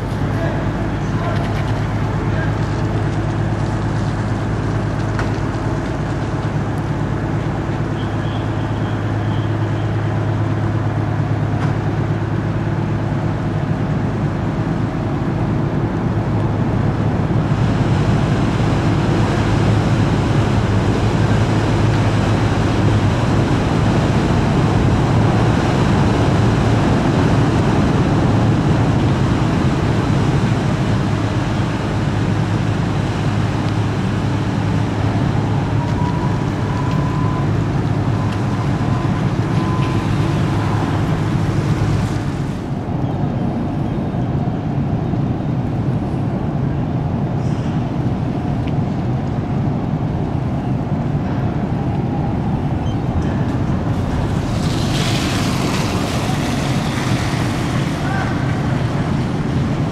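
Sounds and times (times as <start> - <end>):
low engine hum: 0.0 - 59.9
rushing noise: 0.0 - 59.9.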